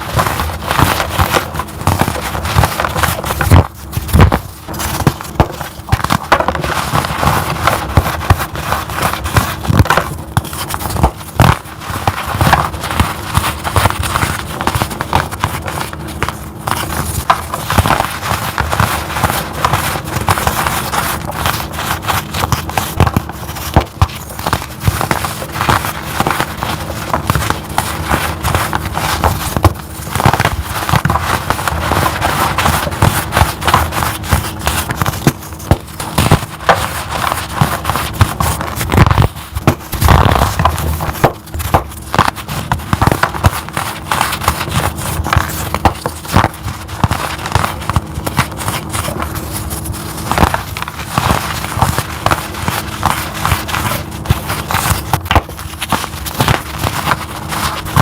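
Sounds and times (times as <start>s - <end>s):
powder blocks crunching: 0.0s - 58.0s.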